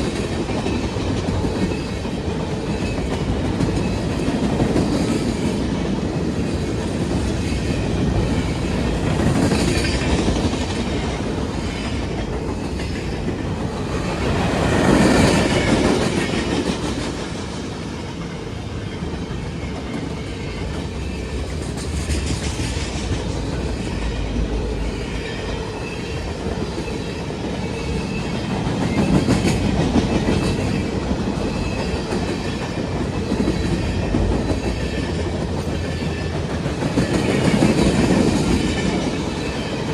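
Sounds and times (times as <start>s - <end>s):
train rumble: 0.0s - 39.9s
train wheels clacking on rails: 0.0s - 39.9s.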